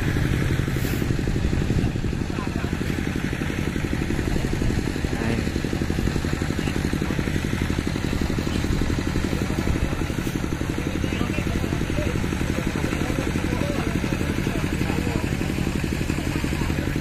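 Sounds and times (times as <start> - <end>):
diesel generator idling: 0.0 - 17.0.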